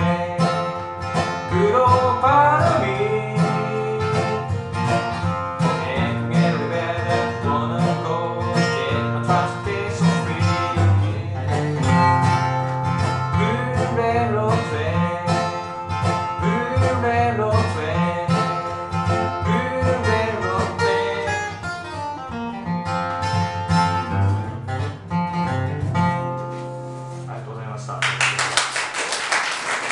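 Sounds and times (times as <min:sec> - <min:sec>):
acoustic guitar strumming: 0:00.0 - 0:28.2.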